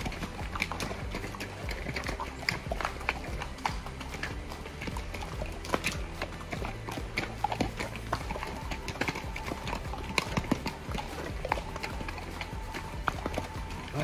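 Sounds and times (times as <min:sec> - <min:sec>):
mule hooves clip-clopping on trail: 0:00.0 - 0:14.0.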